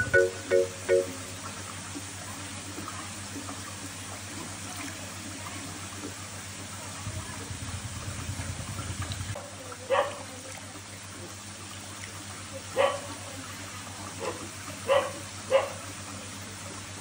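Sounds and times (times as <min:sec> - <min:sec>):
water lapping and trickling: 0:00.0 - 0:17.0.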